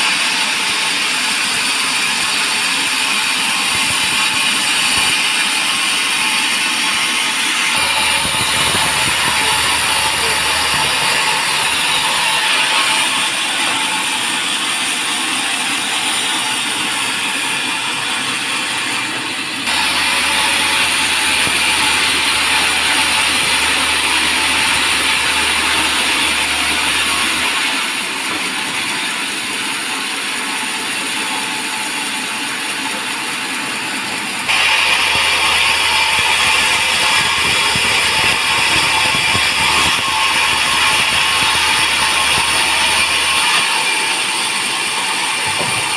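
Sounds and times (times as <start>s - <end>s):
band saw rasping through wood: 0.0s - 45.9s.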